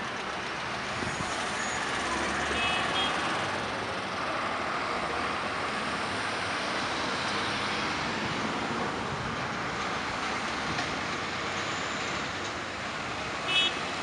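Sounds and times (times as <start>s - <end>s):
cars passing close by: 0.0s - 14.0s.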